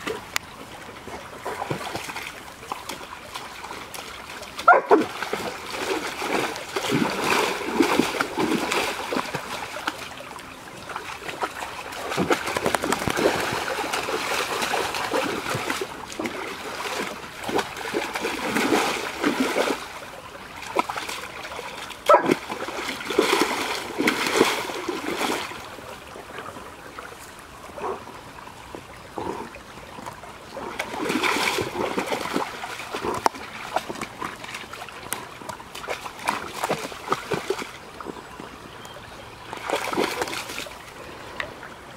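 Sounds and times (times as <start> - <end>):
dog splashing through stream: 0.0 - 41.9
trickling water: 0.0 - 41.9.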